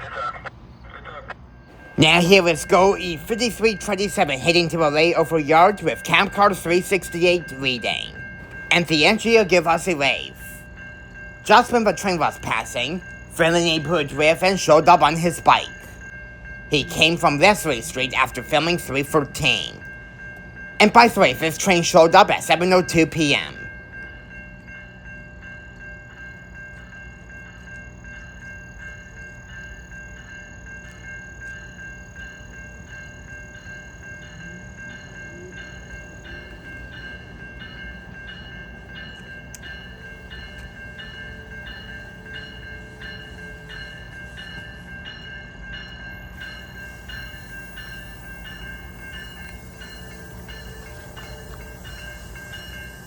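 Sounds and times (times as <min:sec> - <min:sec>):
train rumbling past: 0:00.0 - 0:53.0
crossing bell ringing: 0:01.5 - 0:53.0.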